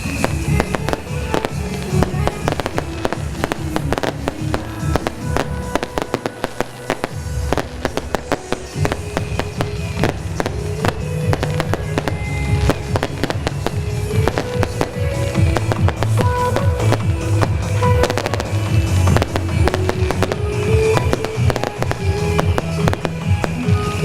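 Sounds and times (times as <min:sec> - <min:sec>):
fireworks rockets cracking and banging: 0:00.0 - 0:24.0
music playing: 0:00.0 - 0:24.0.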